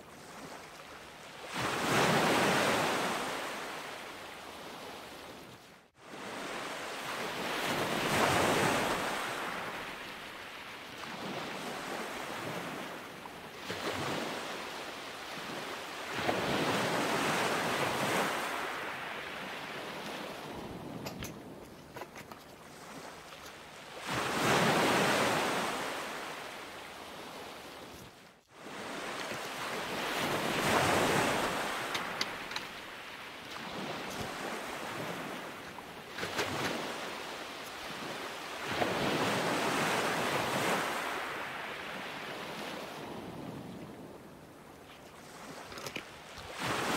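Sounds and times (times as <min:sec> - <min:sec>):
ocean waves rushing in: 0:00.0 - 0:21.6, 0:22.7 - 0:44.4, 0:45.2 - 0:46.9.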